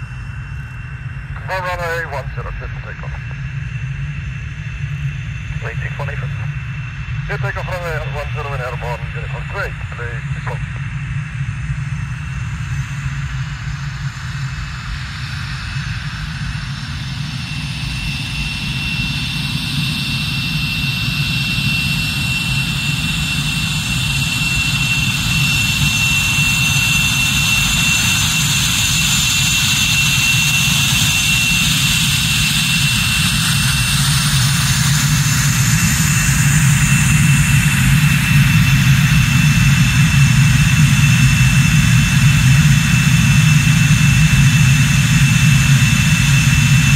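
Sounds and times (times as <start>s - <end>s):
jet engines whining: 0.0s - 46.9s.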